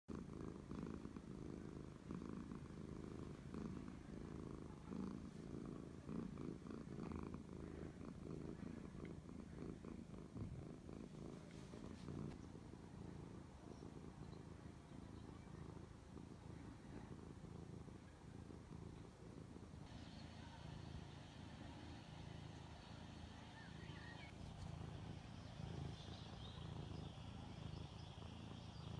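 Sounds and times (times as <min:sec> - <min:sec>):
cat purring: 0:00.1 - 0:28.9.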